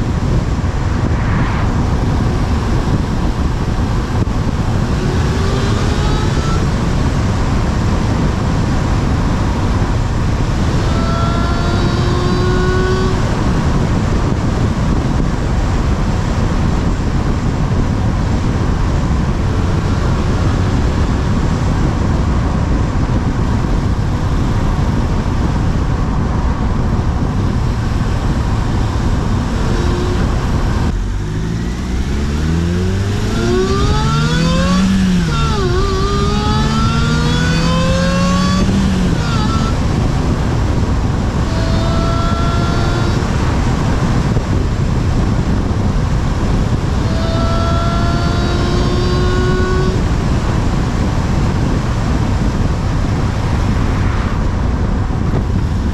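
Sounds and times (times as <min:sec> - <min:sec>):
car engine accelerating hard: 0:00.0 - 0:55.9
road and wind noise: 0:00.0 - 0:55.9
supercharger whine: 0:00.0 - 0:55.9.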